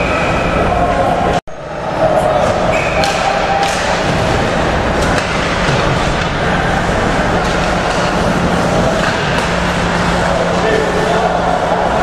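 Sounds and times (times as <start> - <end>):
ice rink din: 2.0 - 12.0.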